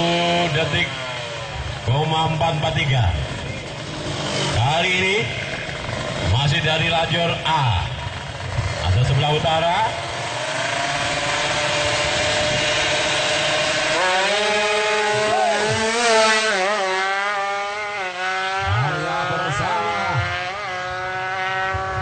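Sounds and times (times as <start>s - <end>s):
motorbike engine revving high: 0.0s - 22.0s.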